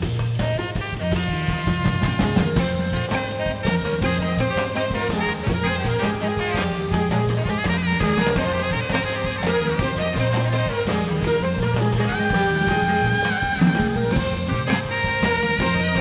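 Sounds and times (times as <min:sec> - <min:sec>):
jazz ensemble playing: 0:00.0 - 0:16.0.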